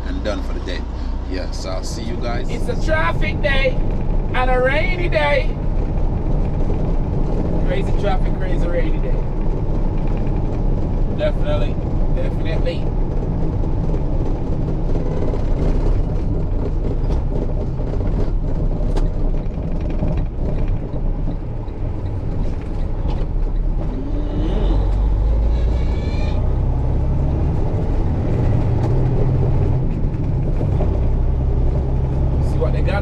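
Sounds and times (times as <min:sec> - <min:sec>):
truck engine rumble from cab: 0:00.0 - 0:33.0.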